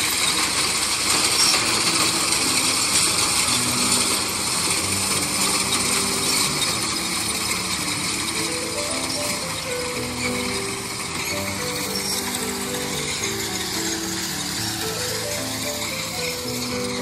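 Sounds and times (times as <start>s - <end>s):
faint music with held notes: 0.0s - 17.0s
reaper mechanical clatter: 0.0s - 17.0s.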